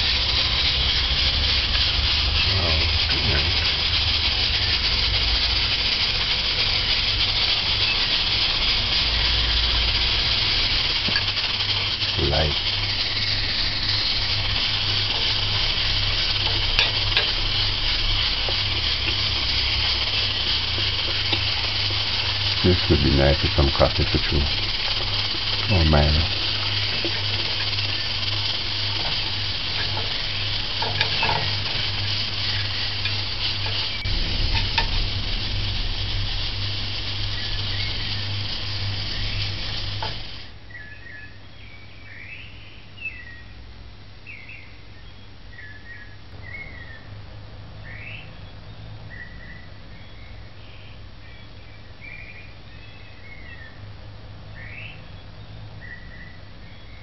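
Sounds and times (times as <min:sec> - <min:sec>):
loud steady hiss: 0:00.0 - 0:57.0.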